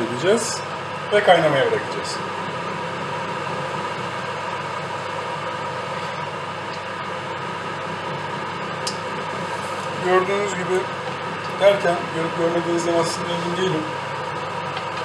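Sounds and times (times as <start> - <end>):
pot boiling on stovetop: 2.2 - 15.0.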